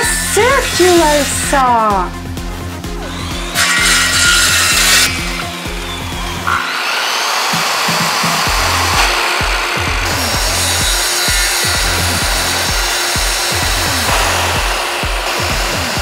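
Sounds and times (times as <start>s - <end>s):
power saw cutting wood: 0.0s - 1.7s, 2.8s - 16.0s
background music beat: 0.0s - 16.0s.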